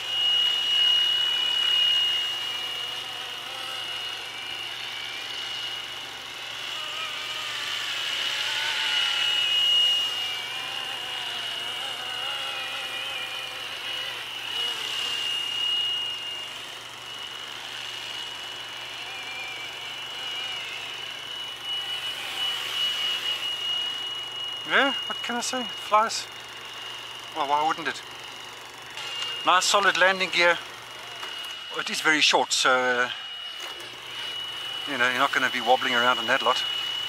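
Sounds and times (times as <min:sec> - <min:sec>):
rc helicopter whine: 0:00.0 - 0:37.0.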